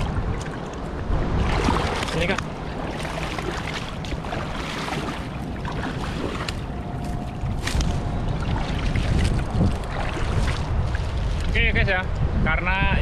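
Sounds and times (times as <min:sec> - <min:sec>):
water sloshing around legs: 0:00.0 - 0:11.5
wind on microphone: 0:00.0 - 0:13.0.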